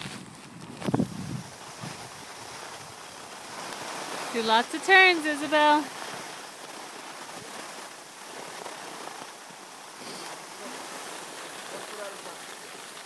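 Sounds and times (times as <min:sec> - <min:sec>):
skis sliding over snow: 0:00.0 - 0:13.0.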